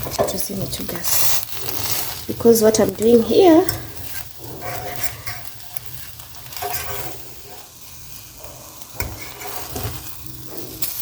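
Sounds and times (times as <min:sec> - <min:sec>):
food sizzling in a pan: 0:00.0 - 0:11.0
utensil scraping and knocking pan: 0:00.0 - 0:11.0.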